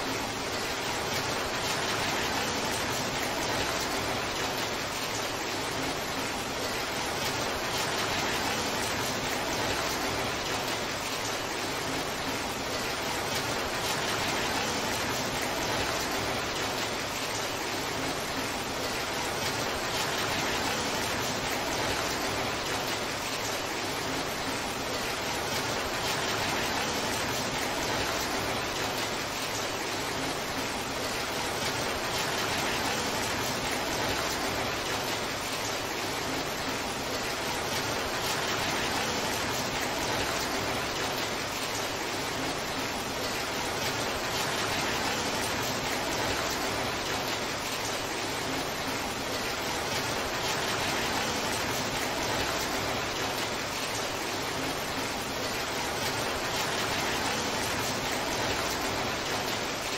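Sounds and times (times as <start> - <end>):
torrential rain: 0.0 - 59.9.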